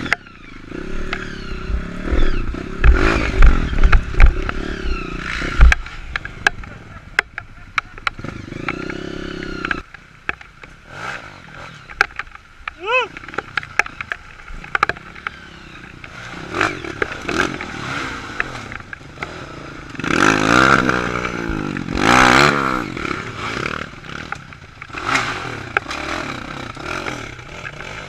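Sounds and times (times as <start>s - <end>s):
dirt bike engine revving: 0.0s - 10.0s, 10.8s - 28.0s.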